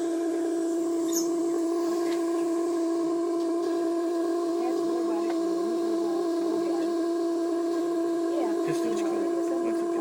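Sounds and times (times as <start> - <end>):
steam boiler humming: 0.0 - 10.0.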